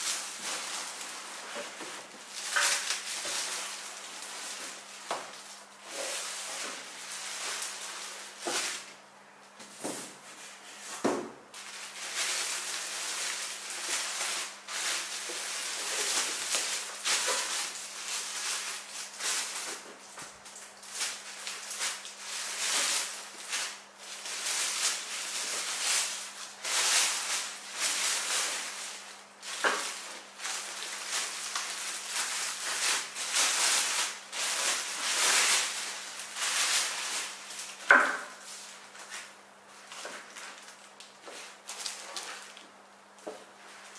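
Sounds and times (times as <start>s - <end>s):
plastic bag crinkling: 0.0s - 9.1s, 11.5s - 43.9s.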